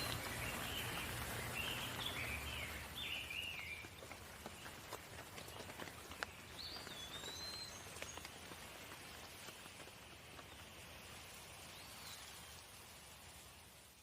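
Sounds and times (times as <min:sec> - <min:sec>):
light rain with drips: 0:00.0 - 0:14.0.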